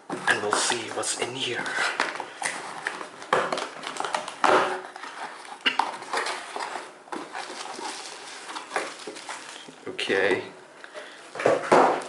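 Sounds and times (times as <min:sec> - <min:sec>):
wrapping rustling and crinkling: 0:00.1 - 0:12.0.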